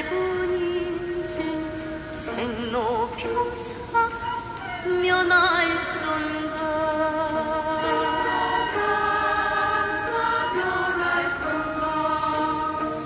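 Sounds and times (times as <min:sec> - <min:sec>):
choir singing held notes: 0:00.0 - 0:13.0.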